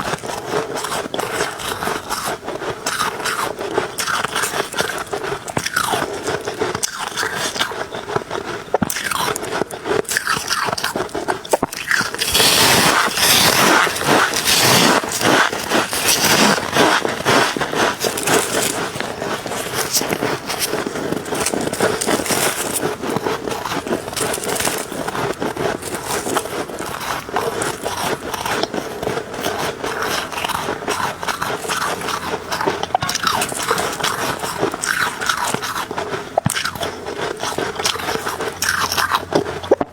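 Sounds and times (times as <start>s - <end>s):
ice crunching between teeth: 0.0s - 39.9s.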